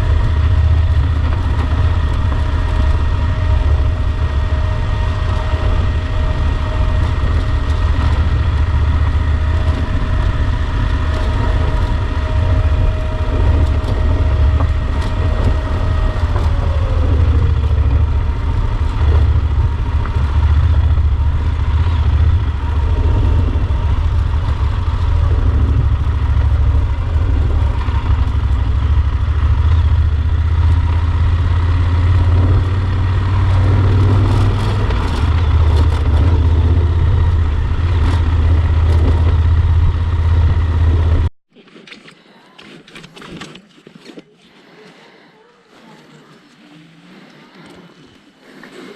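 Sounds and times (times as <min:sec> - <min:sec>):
motorcycle engine running: 0:00.0 - 0:41.3.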